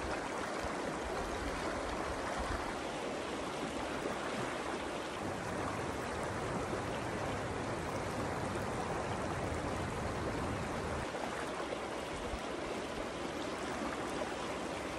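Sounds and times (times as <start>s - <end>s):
river flowing over rocks: 0.0s - 14.9s.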